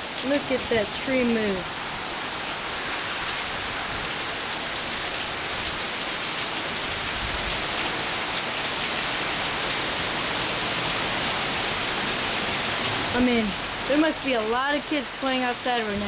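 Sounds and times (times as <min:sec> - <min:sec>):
heavy rain in wind: 0:00.0 - 0:16.0.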